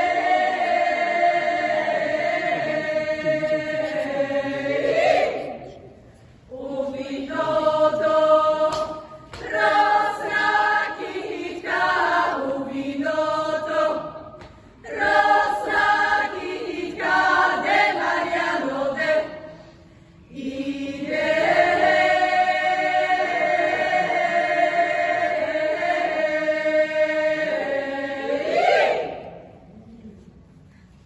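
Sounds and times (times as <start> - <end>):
women's choir singing a cappella: 0.0 - 29.7.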